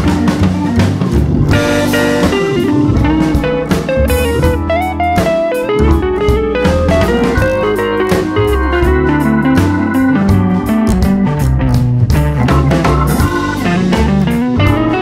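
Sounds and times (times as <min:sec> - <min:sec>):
bass and drums: 0:00.0 - 0:15.0
guitar melody: 0:00.0 - 0:15.0.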